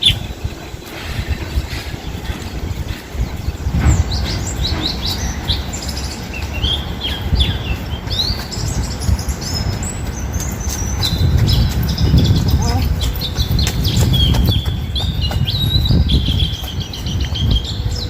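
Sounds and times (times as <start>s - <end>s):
bird chirping high: 0.0s - 18.0s.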